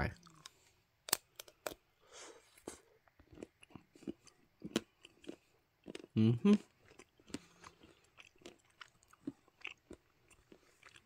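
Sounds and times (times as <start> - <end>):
chocolate chewing: 0.2 - 11.0.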